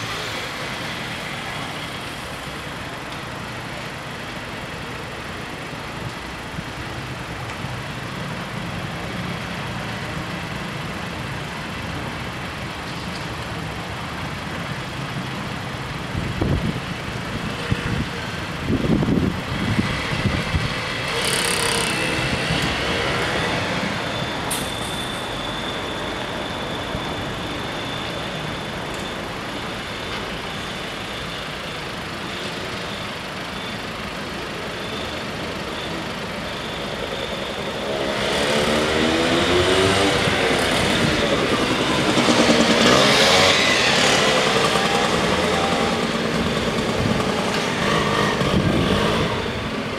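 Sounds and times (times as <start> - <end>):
cars and scooters idling: 0.0 - 49.9.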